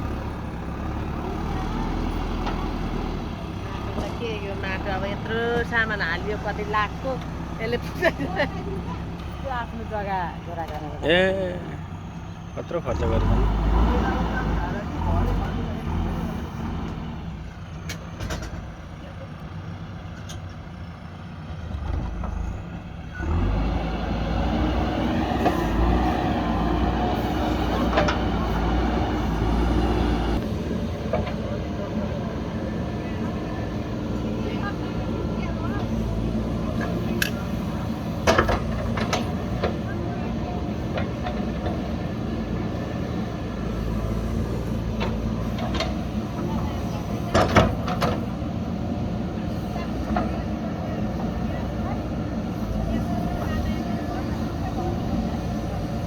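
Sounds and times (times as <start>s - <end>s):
diesel engine running and revving: 0.0s - 56.0s.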